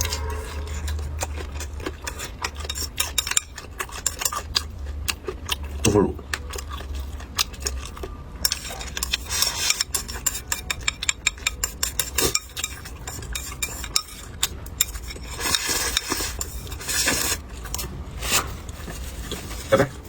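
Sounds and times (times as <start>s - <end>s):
utensils scraping against plates: 0.0s - 4.6s, 7.6s - 20.0s
steady low hum: 0.0s - 20.0s.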